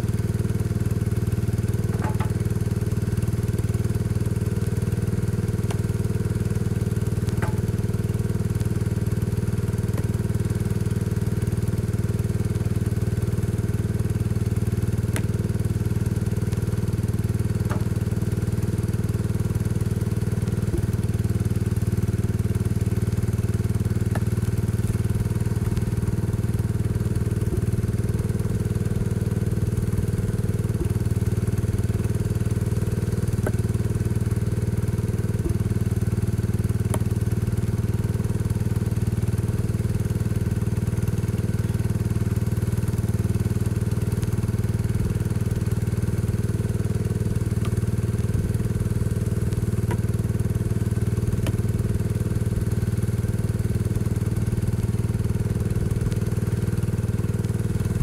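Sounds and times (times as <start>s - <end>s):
tractor engine running steadily: 0.0s - 58.0s.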